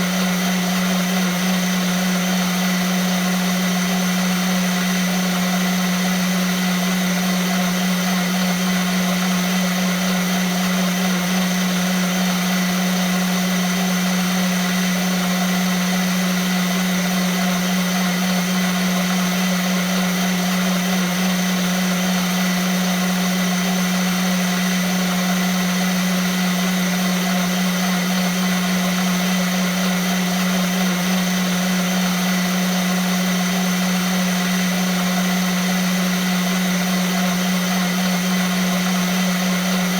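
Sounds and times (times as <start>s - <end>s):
blender motor running: 0.0s - 39.9s.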